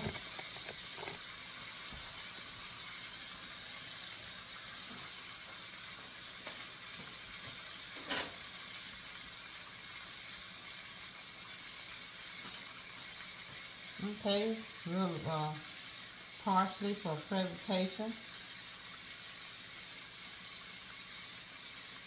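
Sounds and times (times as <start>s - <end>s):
oil sizzling in a pot: 0.0s - 22.0s.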